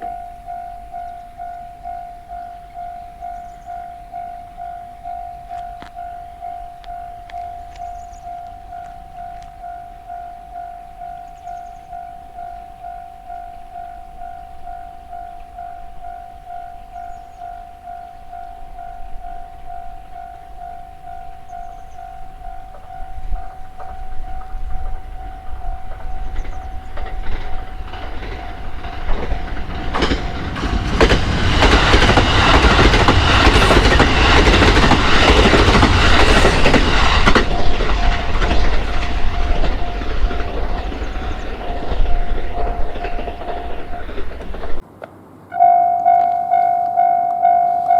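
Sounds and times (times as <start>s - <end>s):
railroad crossing alarm ringing: 0.0s - 44.8s, 45.5s - 47.9s
train passing: 0.0s - 47.9s.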